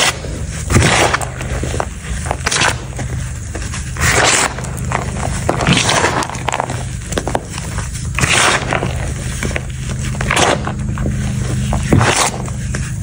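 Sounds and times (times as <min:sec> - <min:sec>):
hands crunching powdered chalk: 0:00.0 - 0:13.0.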